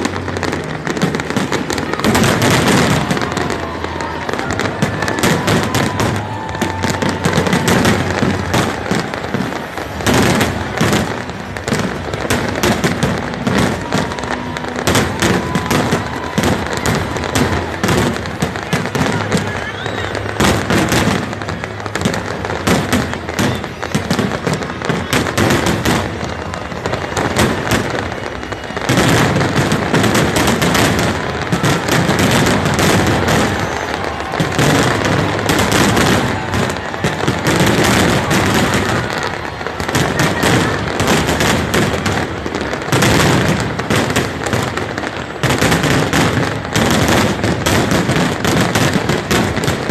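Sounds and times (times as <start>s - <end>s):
faint firework whistles: 0.0s - 43.6s
fireworks crackling and banging: 0.0s - 49.9s.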